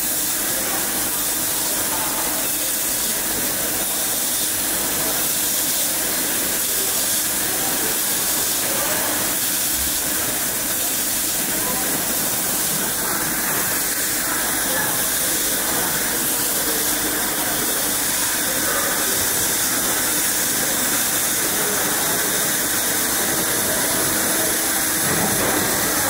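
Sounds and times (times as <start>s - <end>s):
welding machine steady hiss: 0.0s - 26.0s.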